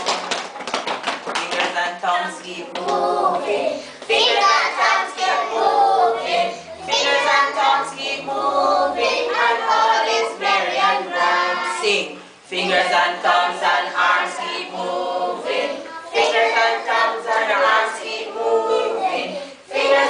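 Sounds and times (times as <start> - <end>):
children singing together: 2.6 - 20.0.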